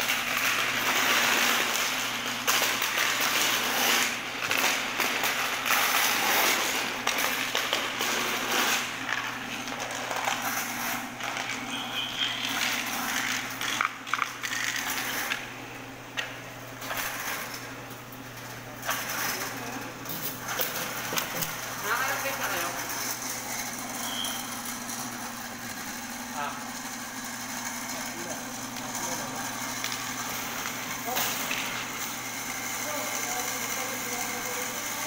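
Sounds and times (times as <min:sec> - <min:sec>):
drain-cleaning machine running: 0:00.0 - 0:35.0.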